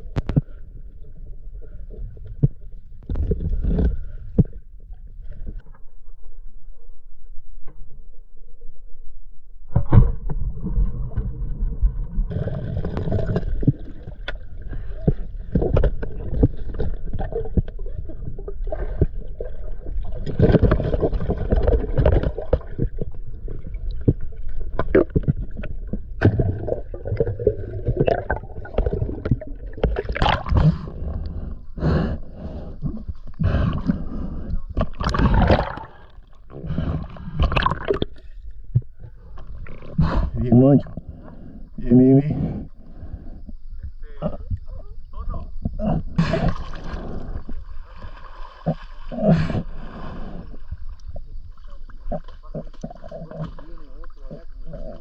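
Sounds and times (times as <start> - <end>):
water sloshing and gurgling: 0.0 - 8.0, 9.6 - 55.0.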